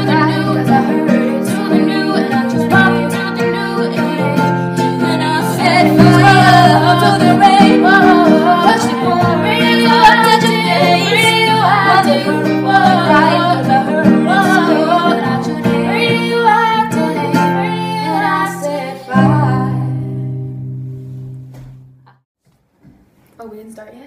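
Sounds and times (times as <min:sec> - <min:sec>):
women singing: 0:00.0 - 0:20.5
acoustic guitar: 0:00.0 - 0:22.2.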